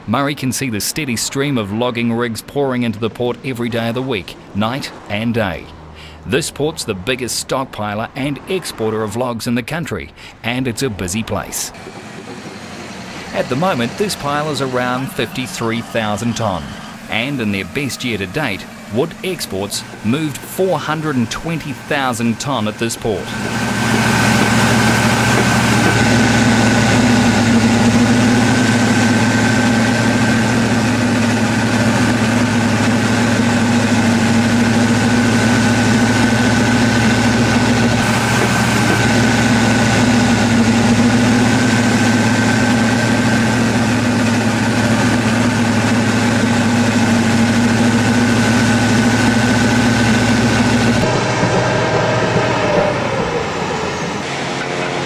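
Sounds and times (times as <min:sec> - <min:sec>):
diesel bulldozer engine running: 0:00.0 - 0:55.0
high whine: 0:10.5 - 0:55.0.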